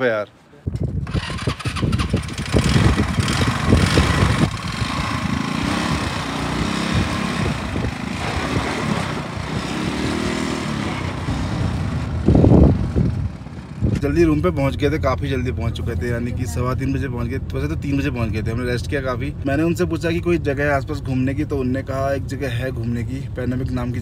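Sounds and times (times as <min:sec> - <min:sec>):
dune buggy engine running: 0:01.0 - 0:20.7.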